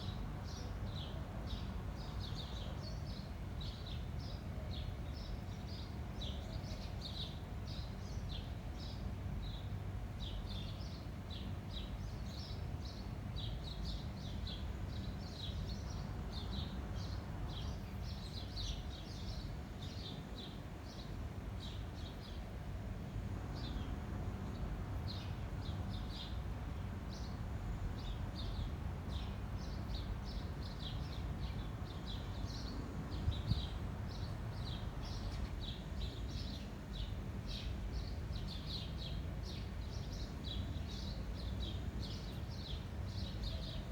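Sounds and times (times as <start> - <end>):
garden birds chirping: 0.0 - 43.9
low rumble of wind: 0.0 - 43.9.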